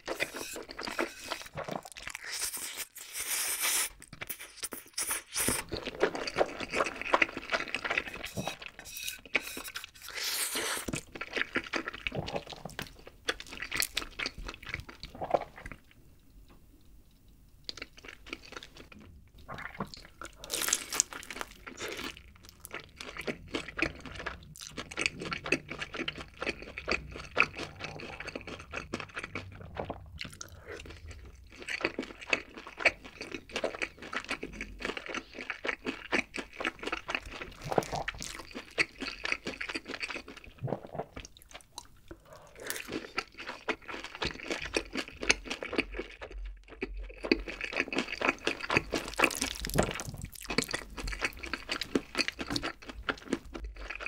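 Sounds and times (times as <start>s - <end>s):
crunching and chewing food: 0.0s - 16.0s, 17.2s - 54.0s.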